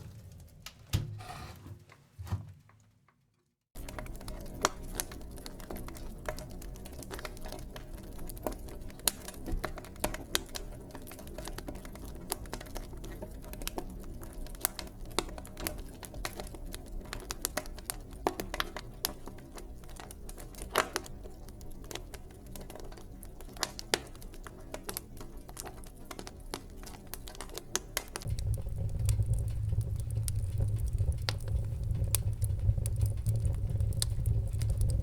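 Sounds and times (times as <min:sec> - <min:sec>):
fire crackling and popping: 0:03.8 - 0:35.0
flames rushing: 0:03.8 - 0:35.0.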